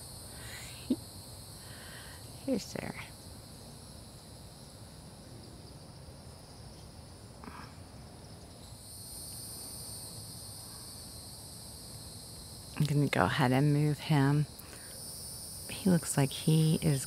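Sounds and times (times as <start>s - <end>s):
high-pitched insect trilling: 0.0s - 17.0s.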